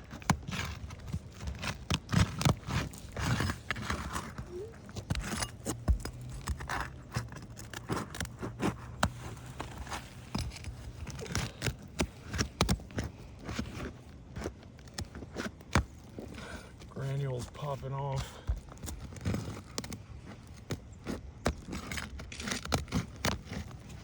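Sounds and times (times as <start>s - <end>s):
shingles scraping and crackling: 0.0s - 24.0s.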